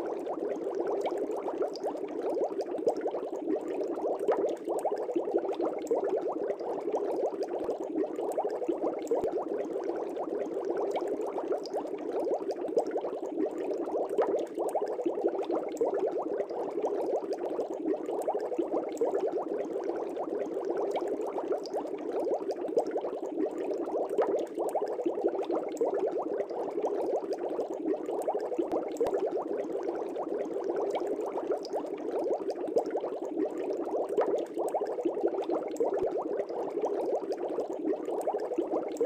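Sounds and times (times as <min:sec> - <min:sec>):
aquarium air bubbles: 0:00.0 - 0:39.0.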